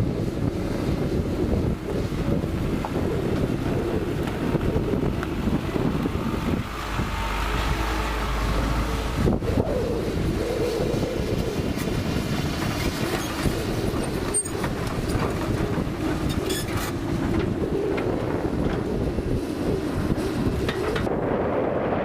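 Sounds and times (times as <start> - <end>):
excavator diesel engine running: 0.2 - 21.1.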